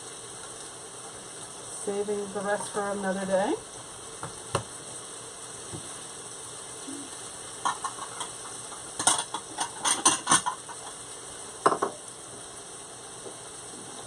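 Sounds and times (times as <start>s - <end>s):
vegetables sizzling in a frying pan: 0.0s - 14.0s.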